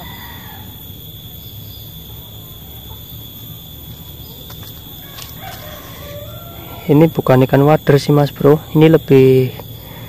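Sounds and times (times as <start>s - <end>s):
crickets chirping: 0.0s - 10.0s
low outdoor rumble: 0.0s - 10.0s.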